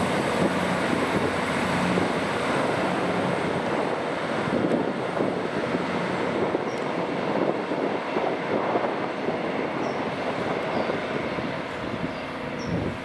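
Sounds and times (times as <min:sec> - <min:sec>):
diesel train engine: 0:00.0 - 0:13.0
wheels rumbling on rails: 0:00.0 - 0:13.0.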